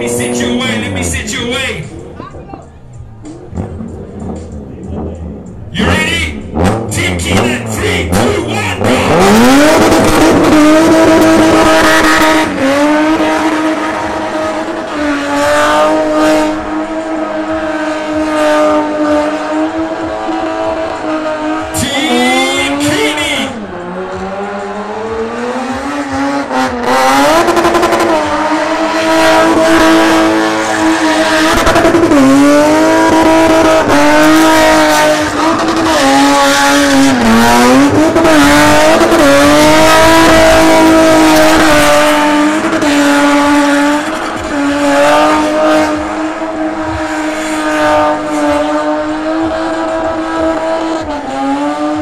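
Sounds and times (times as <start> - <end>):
car engine revving hard: 0.0 - 2.2, 3.0 - 52.0.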